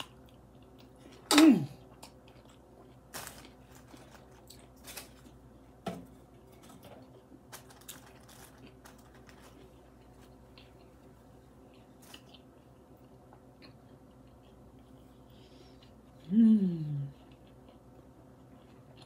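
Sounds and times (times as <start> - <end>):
crunching and smacking sounds: 0.0 - 5.8, 6.4 - 16.2
person chewing food: 0.0 - 19.0.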